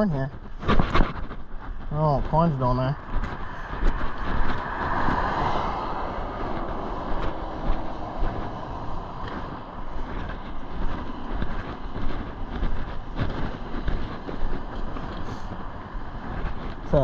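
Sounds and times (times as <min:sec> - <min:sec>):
vehicle passing close by: 0:02.5 - 0:17.0.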